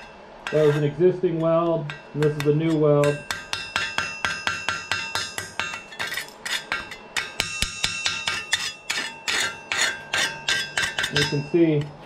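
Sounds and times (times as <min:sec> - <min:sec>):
metal ringing: 0:00.0 - 0:12.0
chipping hammer tapping metal: 0:01.7 - 0:11.9.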